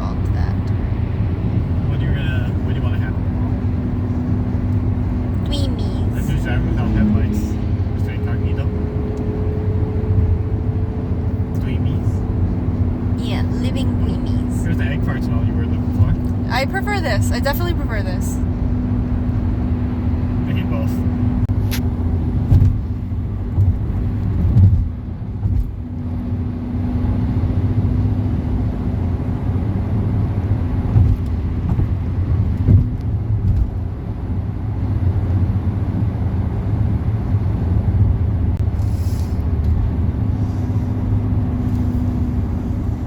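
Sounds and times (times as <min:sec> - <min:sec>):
car cabin road and engine rumble: 0:00.0 - 0:43.0.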